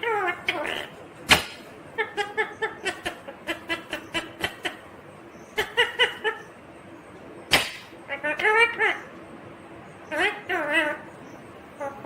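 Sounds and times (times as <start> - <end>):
parakeet chattering: 0.0 - 6.6, 7.5 - 9.1, 10.0 - 12.0.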